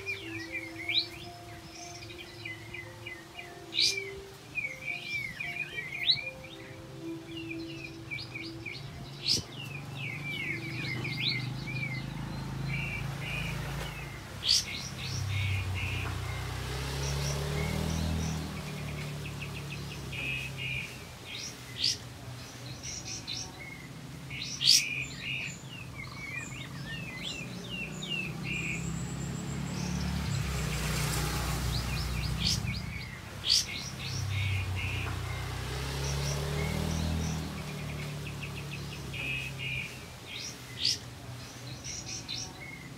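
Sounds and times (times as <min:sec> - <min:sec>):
songbird trilling and whistling: 0:00.0 - 0:30.0, 0:31.6 - 0:42.9.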